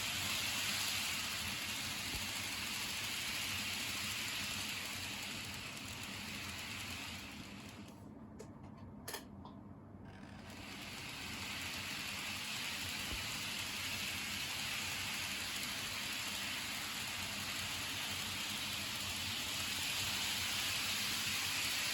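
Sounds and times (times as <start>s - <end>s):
model train motor whirring: 0.0s - 7.9s, 10.4s - 21.9s.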